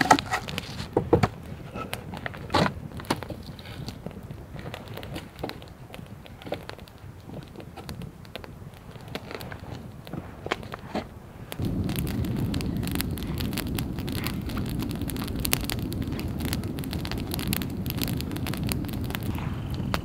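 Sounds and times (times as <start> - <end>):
fire crackles and pops: 0.0 - 20.0
rush of flames: 0.0 - 20.0.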